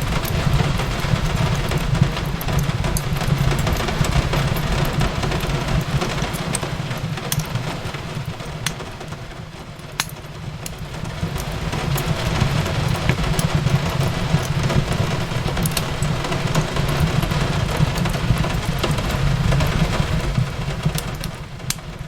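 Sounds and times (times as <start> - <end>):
fire low rumble: 0.0 - 22.0
fireplace crackling and popping: 0.0 - 22.0
rain on a window: 0.0 - 22.0.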